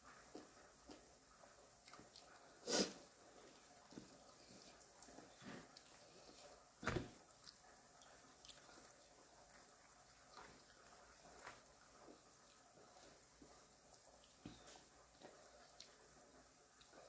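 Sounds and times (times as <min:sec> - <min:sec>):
mouth chewing: 0:00.2 - 0:17.0.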